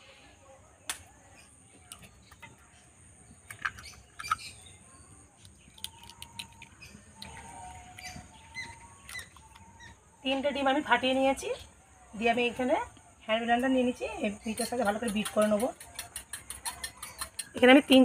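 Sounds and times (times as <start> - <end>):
birds chirping: 1.0 - 18.0.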